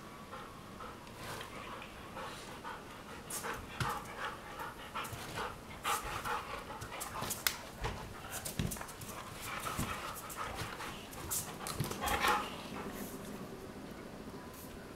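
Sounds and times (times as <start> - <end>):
dogs panting: 0.2 - 13.5.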